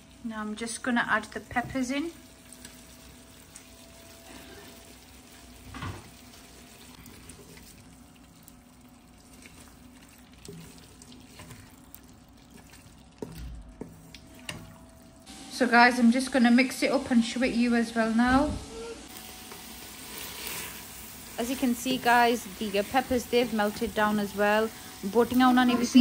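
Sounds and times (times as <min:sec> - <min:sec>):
food frying in a pot: 0:00.0 - 0:26.0.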